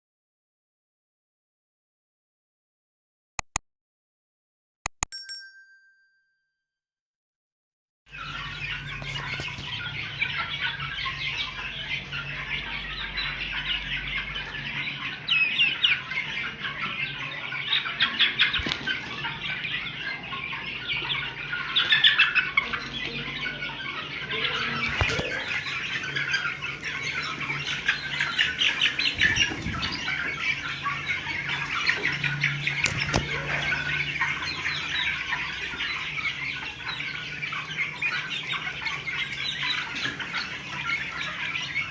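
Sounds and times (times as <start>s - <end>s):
chickens chirping and squawking: 8.1s - 41.9s.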